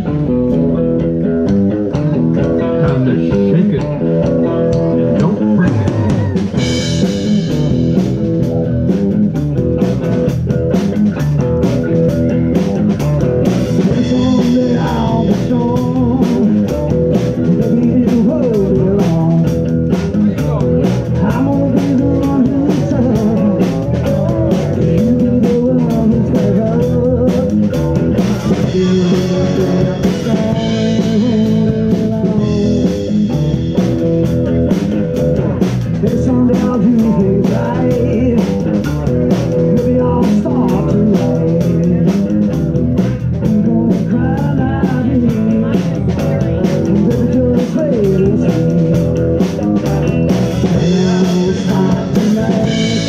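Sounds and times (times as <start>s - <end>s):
drum kit beat: 0.0s - 53.0s
electric bass: 0.0s - 53.0s
electric guitar: 0.0s - 53.0s.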